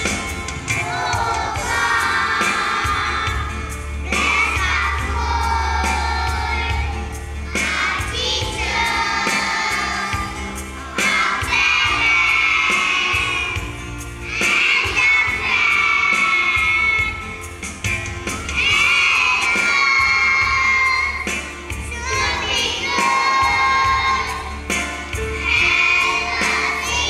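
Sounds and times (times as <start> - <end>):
boys singing together: 0.7 - 13.6, 14.4 - 17.1, 18.6 - 21.2, 22.0 - 24.6, 25.4 - 27.0.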